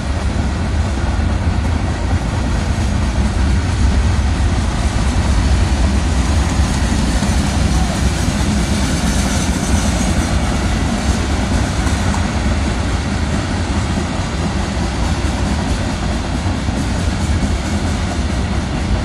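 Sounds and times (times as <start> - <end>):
freight cars rumbling on rails: 0.0 - 19.0.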